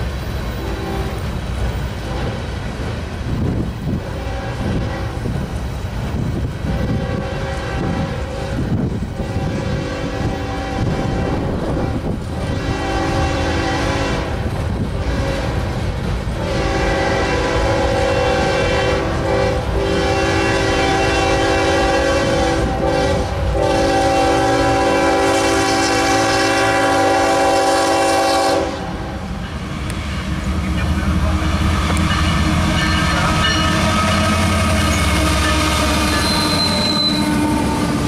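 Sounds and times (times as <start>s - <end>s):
rumble and clatter of railcars: 0.0s - 38.0s
locomotive air horn: 0.6s - 1.2s, 2.0s - 2.5s, 4.0s - 5.3s, 6.6s - 8.6s, 9.2s - 15.6s, 16.4s - 30.5s, 31.5s - 38.0s.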